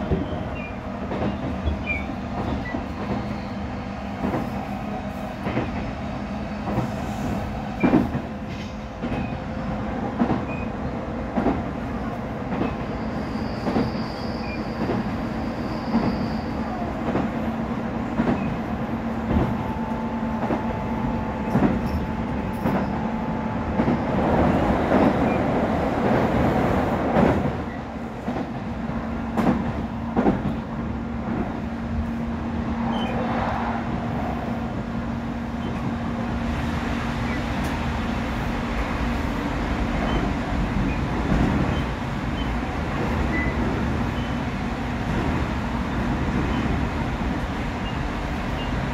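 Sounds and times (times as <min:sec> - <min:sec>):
rumble of train wheels: 0:00.0 - 0:48.9.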